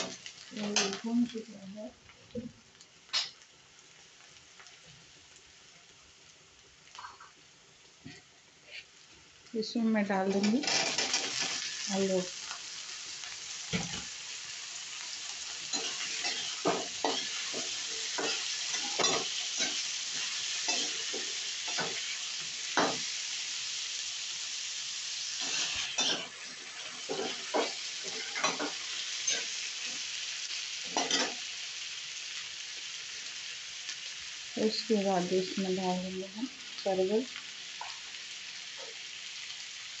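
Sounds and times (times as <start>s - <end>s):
potatoes sizzling in oil: 0.0s - 40.0s.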